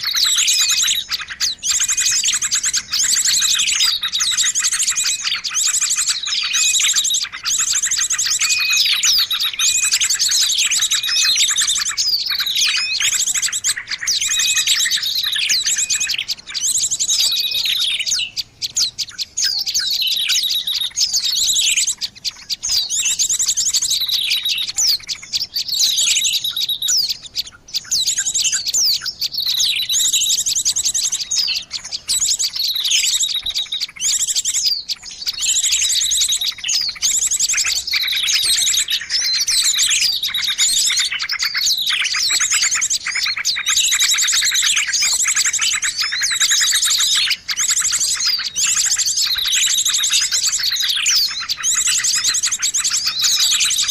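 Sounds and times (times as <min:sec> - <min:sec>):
birds chirping and trilling: 0:00.0 - 0:53.9.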